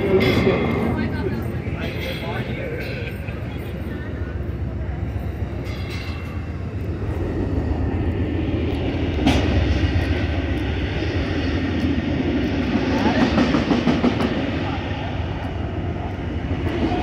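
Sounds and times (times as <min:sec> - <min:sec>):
standing train rumble and hum: 0:00.0 - 0:17.0.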